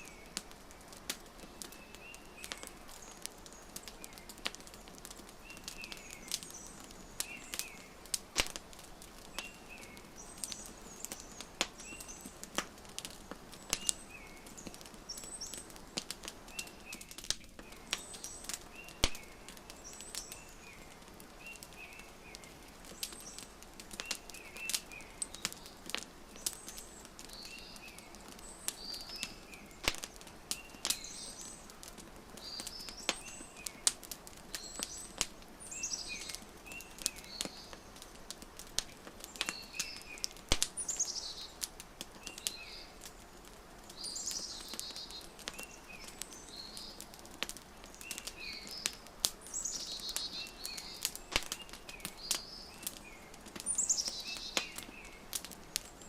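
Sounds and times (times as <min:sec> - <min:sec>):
songbirds chirping: 0:00.0 - 0:56.0
wood fire crackling and popping: 0:00.0 - 0:56.0.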